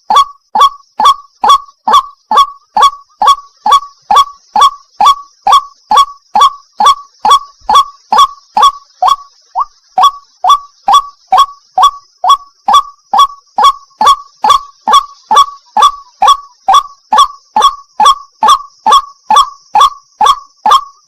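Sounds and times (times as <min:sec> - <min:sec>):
waterhen kwak calls: 0:00.0 - 0:21.0.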